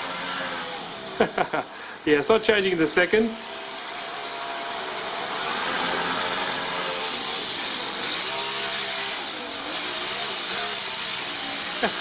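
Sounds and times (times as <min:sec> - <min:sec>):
model car engine revving: 0:00.0 - 0:01.6, 0:03.3 - 0:12.0.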